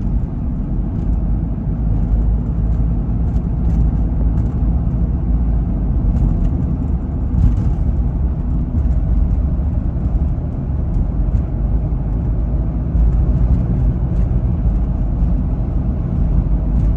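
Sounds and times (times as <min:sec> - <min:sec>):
diesel engine rumbling: 0:00.0 - 0:16.9
road noise: 0:00.0 - 0:16.9.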